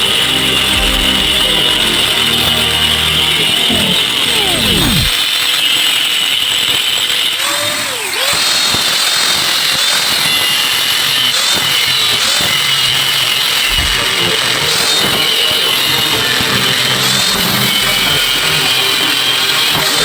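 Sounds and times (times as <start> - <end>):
power tool whining on metal: 0.0 - 20.0.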